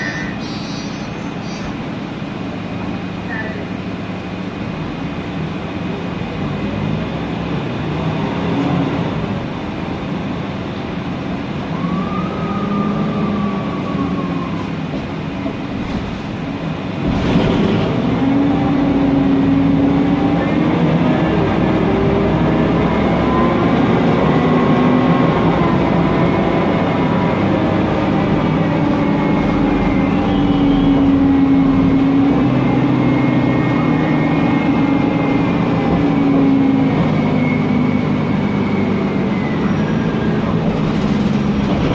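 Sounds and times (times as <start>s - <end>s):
bus engine and cooling fan: 0.0s - 41.9s.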